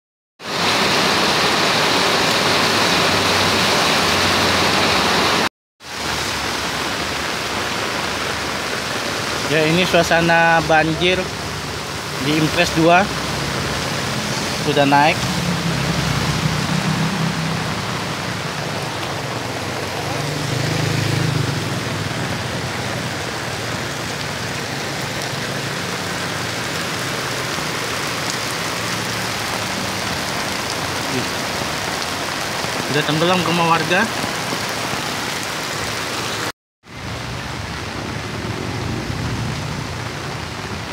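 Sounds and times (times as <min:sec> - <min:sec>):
flowing floodwater: 0:00.4 - 0:40.9
heavy rain pouring on street: 0:00.4 - 0:40.9.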